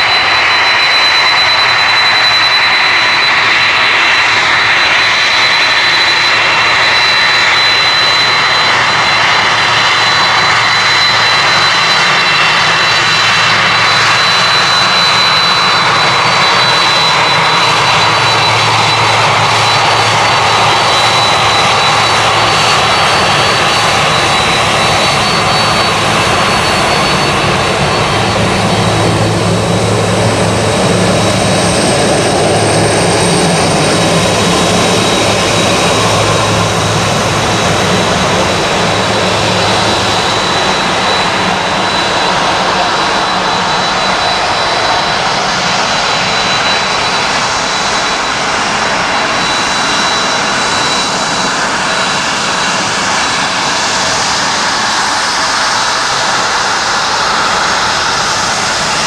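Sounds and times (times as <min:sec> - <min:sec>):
deep jet rumble: 0:00.0 - 0:59.0
jet engines roaring: 0:00.0 - 0:59.0.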